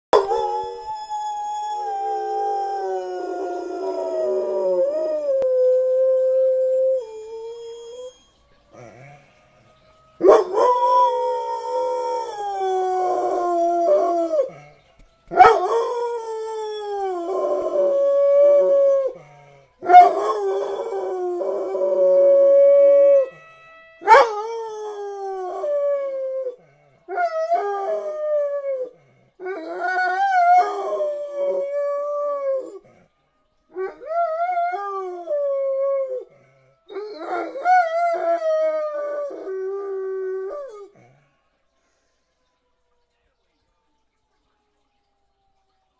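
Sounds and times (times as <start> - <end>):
sirens: 0.1 - 45.9
dog howling: 0.2 - 9.4, 10.2 - 33.1, 33.7 - 41.1.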